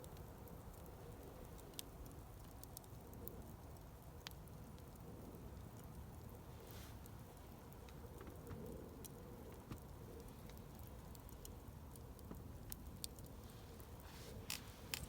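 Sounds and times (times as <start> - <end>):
campfire crackles and pops: 0.0 - 15.0
low rustle of flames: 0.0 - 15.0.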